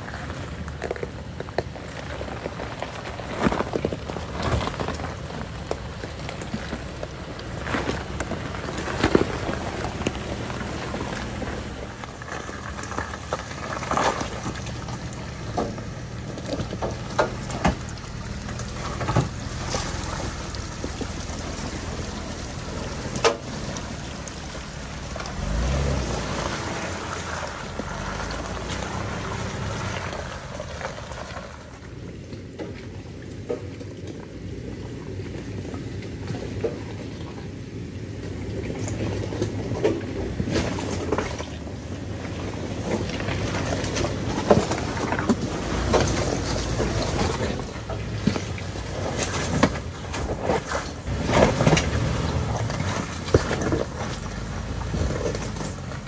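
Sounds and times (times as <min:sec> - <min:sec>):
suv engine running low: 0:00.0 - 0:56.0.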